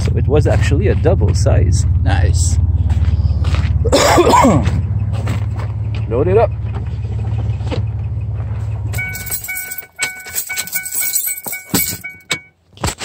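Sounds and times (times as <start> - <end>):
truck engine idling: 0.0 - 12.3.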